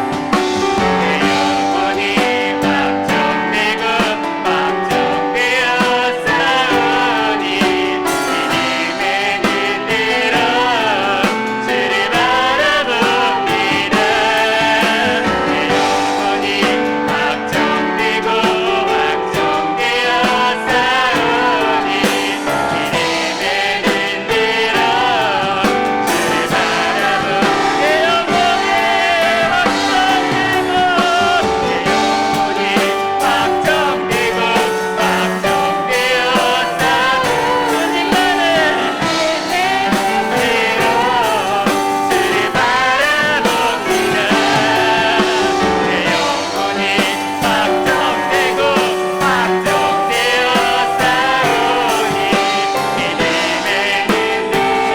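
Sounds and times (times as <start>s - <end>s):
drums: 0.0s - 54.9s
piano: 0.0s - 54.9s
praise team singing: 0.0s - 54.9s.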